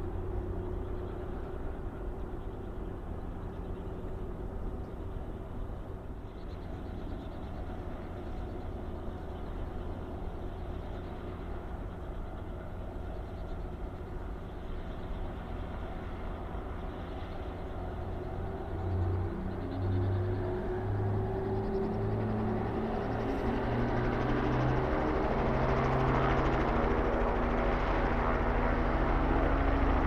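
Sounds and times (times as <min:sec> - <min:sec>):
helicopter running: 0:00.0 - 0:30.0.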